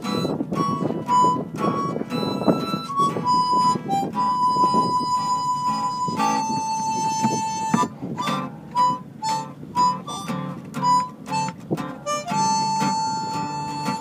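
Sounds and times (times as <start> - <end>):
harmonica playing: 0.0 - 14.0
strummed guitar: 0.0 - 14.0.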